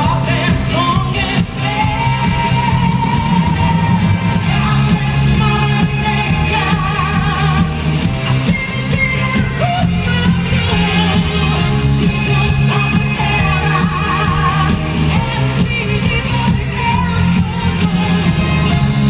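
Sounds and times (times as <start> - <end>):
pop band playing: 0.0 - 19.0
woman singing into microphone: 0.0 - 19.0.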